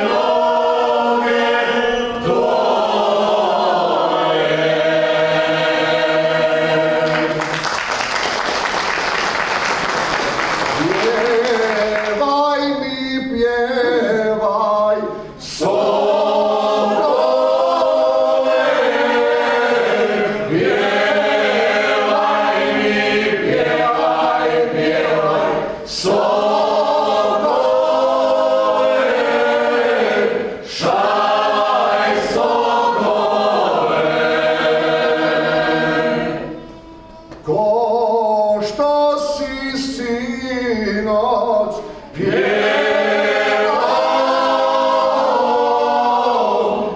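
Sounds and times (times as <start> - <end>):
unaccompanied vocal group singing: 0.0 - 7.6, 10.8 - 46.9.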